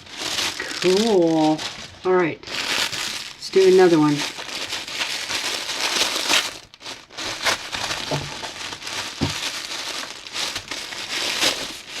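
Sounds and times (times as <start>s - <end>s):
gift wrapping crinkling: 0.0s - 12.0s.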